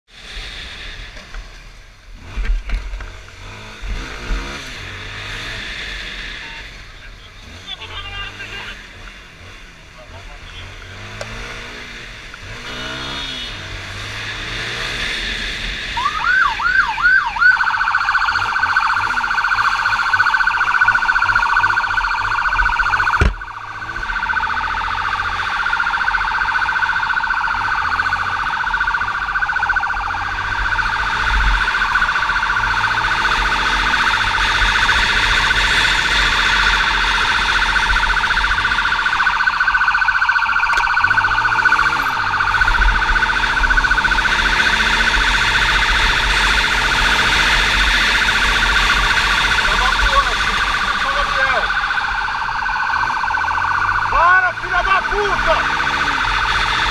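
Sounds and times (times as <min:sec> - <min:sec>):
police motorcycle siren wailing: 0:00.3 - 0:56.9.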